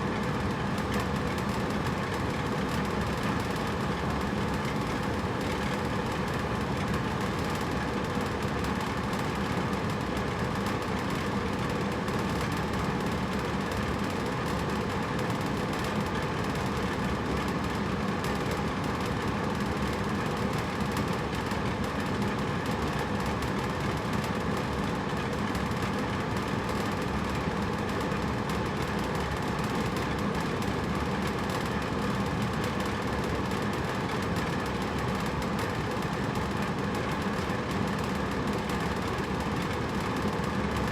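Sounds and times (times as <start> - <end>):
air conditioner humming: 0.0 - 40.9.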